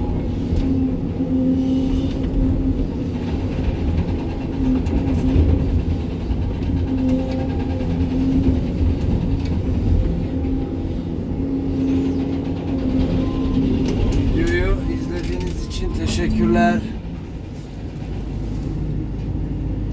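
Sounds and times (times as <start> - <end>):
excavator diesel engine running: 0.0 - 19.9.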